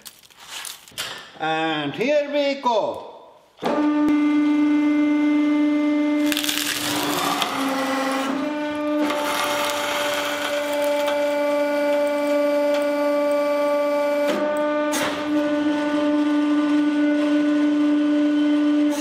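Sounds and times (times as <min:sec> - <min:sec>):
hydraulic pump whine: 0:03.6 - 0:19.0.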